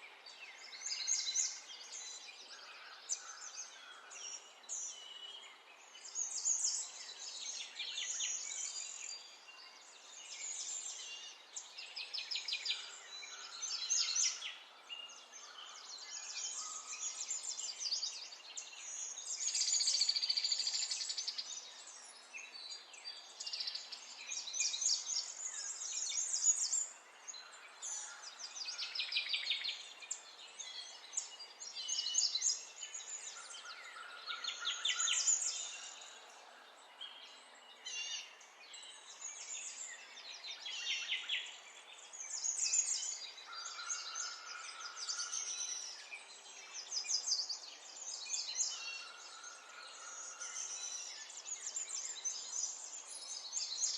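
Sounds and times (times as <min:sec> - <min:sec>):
birds chirping and trilling: 0:00.2 - 0:53.9.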